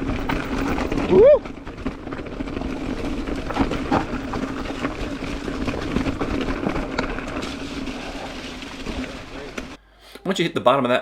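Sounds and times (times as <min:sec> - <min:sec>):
gravel clicks and rattles: 0:00.0 - 0:09.8.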